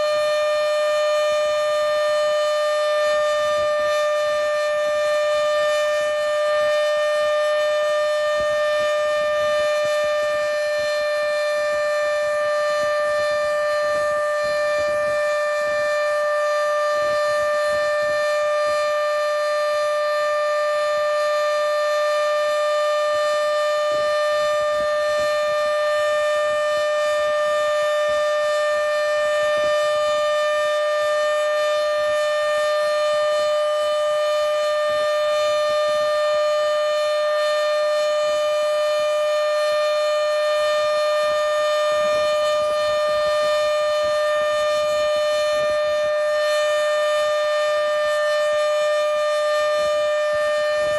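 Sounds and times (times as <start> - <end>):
warning siren steady tone: 0.0 - 50.9.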